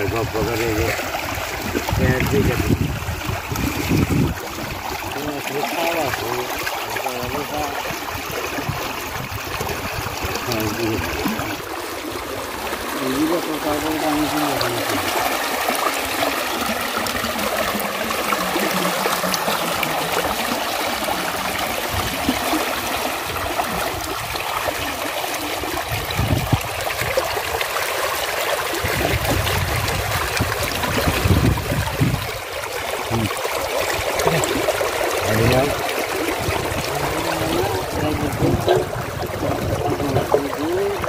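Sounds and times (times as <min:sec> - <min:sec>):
muddy water splashing: 0:00.0 - 0:41.0.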